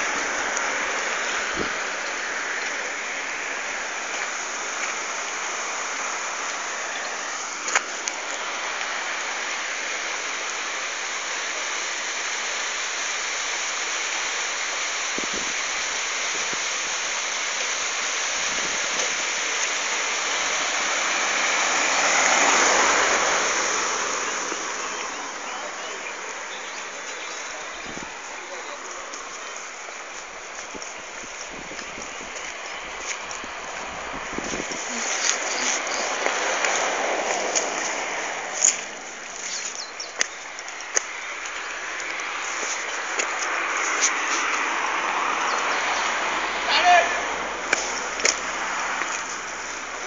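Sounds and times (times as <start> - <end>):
road noise: 0.0 - 50.0
rushing wind: 0.0 - 50.0.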